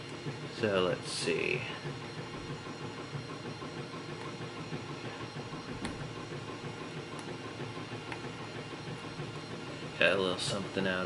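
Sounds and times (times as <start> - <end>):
printer motors whirring hum: 0.0 - 11.0.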